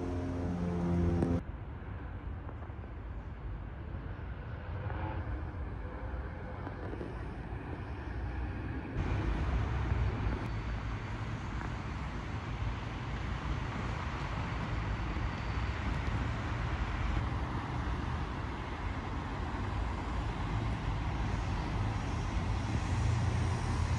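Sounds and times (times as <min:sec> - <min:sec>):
road traffic noise: 0:00.0 - 0:02.3, 0:03.4 - 0:23.9.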